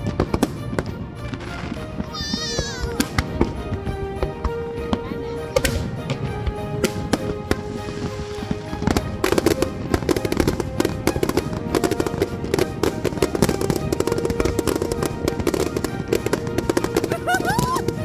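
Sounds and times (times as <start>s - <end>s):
background music: 0.0s - 18.0s
fireworks exploding: 0.0s - 18.0s.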